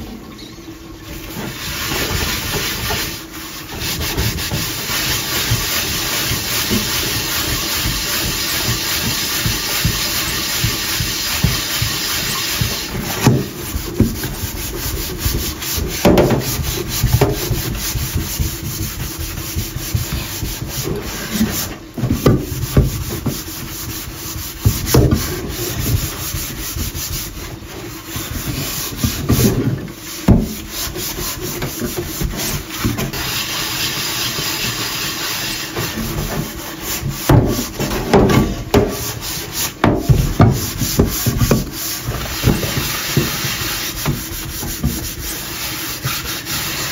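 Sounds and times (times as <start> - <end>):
scrubbing pot in steel sink: 0.0 - 46.9.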